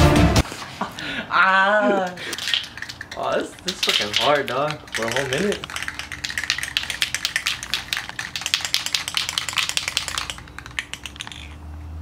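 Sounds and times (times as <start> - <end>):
aerosol can mixing ball rattling: 2.1 - 11.7.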